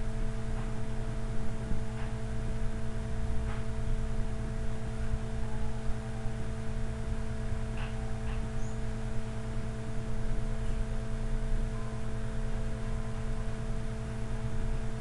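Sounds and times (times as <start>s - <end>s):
electrical hum with tones: 0.0s - 15.0s.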